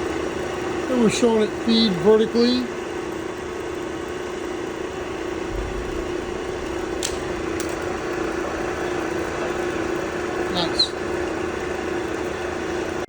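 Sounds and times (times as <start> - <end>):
mill feed motor humming: 0.0 - 13.0.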